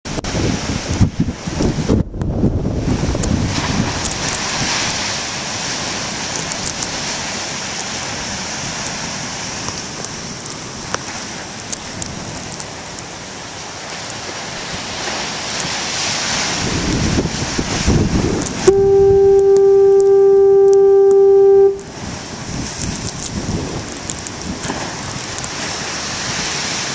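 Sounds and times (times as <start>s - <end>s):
wind: 0.0s - 26.9s
big waves breaking: 0.1s - 26.9s.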